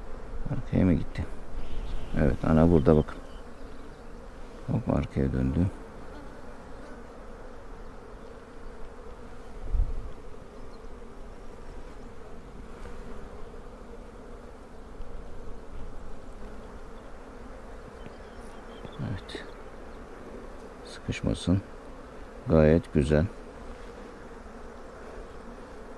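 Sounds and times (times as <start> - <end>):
honeybees humming: 0.0 - 25.9.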